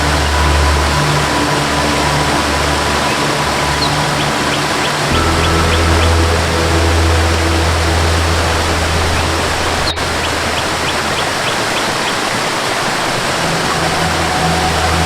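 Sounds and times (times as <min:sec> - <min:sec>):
soft low musical drone: 0:00.0 - 0:11.8, 0:13.0 - 0:15.0
waterfall rushing: 0:00.0 - 0:15.0.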